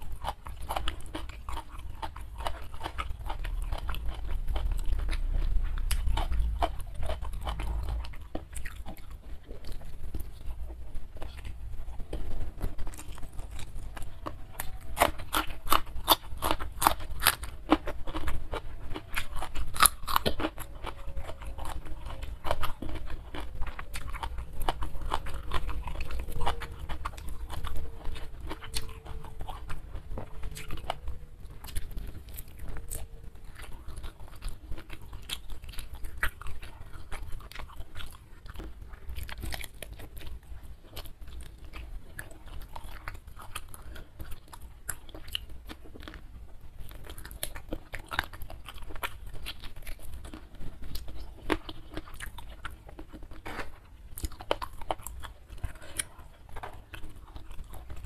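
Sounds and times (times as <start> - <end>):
chewing with crunches: 0.0 - 58.0.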